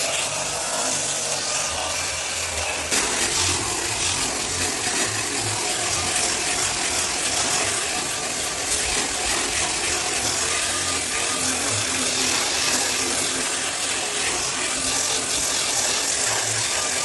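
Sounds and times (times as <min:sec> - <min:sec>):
floor sanding machine running: 0:00.0 - 0:17.0.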